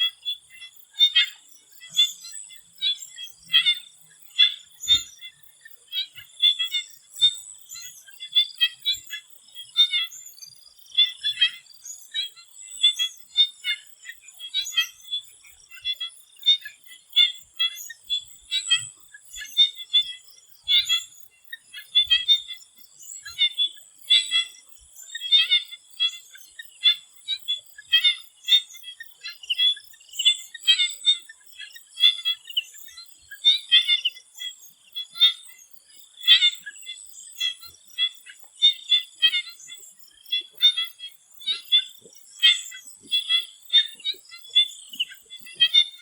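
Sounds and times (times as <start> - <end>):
frogs calling in chorus: 0.0 - 46.0.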